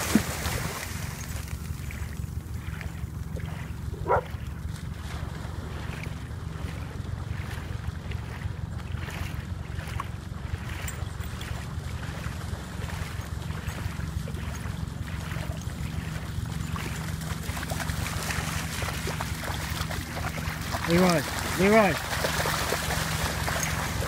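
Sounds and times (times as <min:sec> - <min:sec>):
dogs splashing through water: 0:00.0 - 0:24.0.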